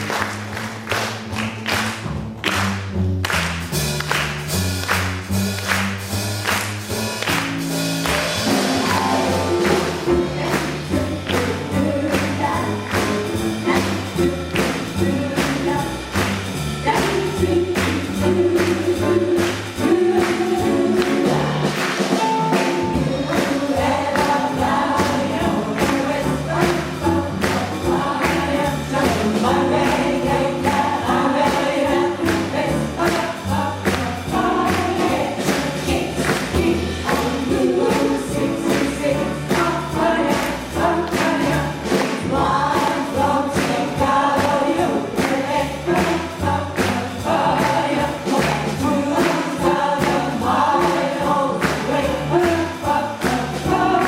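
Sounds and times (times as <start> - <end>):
small jazz band playing: 0.0 - 54.0
jazz chorus singing in harmony: 4.5 - 54.0.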